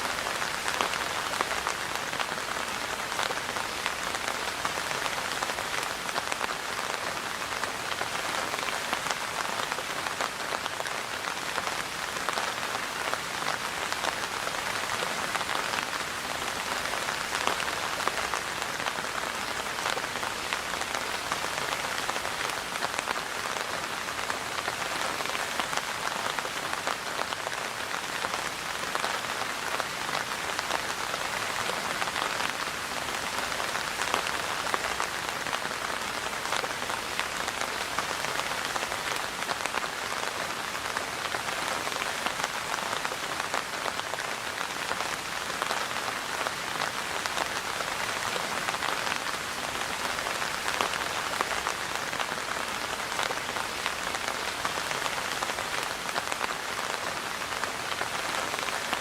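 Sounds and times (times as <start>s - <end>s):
steady rainfall patter: 0.0s - 59.0s.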